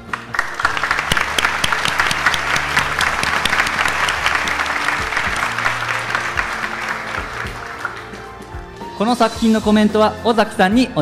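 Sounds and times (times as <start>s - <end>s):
audience applauding: 0.0s - 8.9s
quiet background music: 0.0s - 11.0s.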